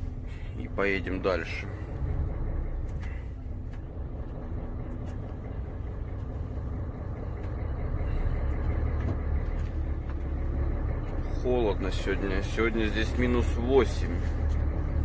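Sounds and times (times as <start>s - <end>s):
road noise: 0.0s - 15.0s
truck engine rumbling: 0.0s - 15.0s.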